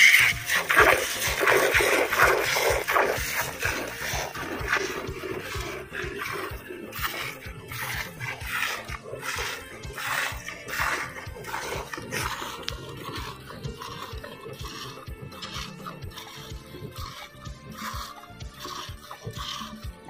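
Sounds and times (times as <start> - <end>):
milk squirting into a pail: 0.0 - 20.0.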